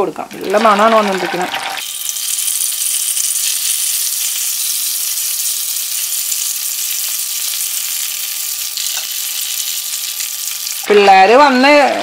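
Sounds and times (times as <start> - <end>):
chicken sizzling in oil: 0.0 - 10.9.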